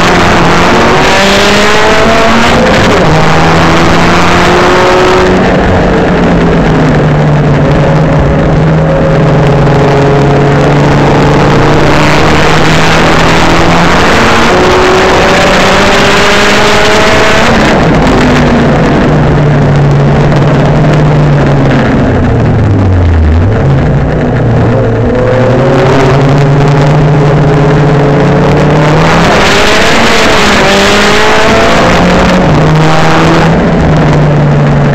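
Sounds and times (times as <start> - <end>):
race car engine revving: 0.0 - 34.9.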